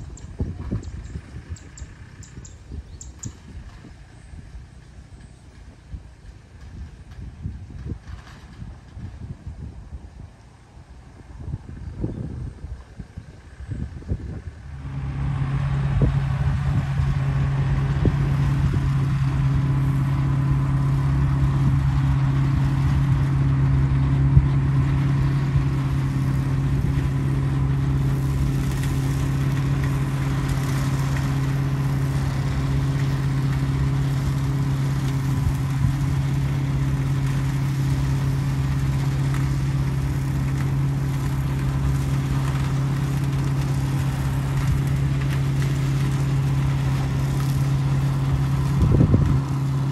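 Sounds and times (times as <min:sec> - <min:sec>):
lawn mower engine running: 0:00.0 - 0:49.9.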